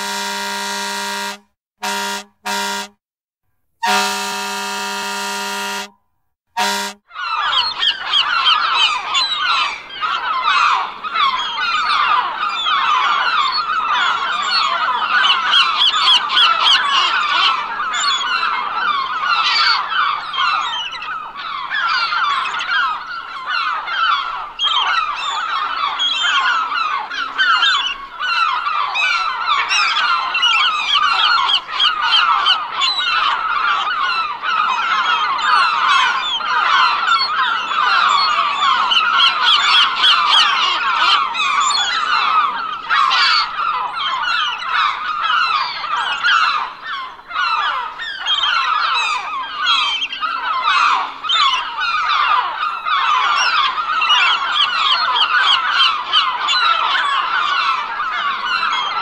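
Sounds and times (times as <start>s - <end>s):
seagulls calling: 6.6s - 59.0s.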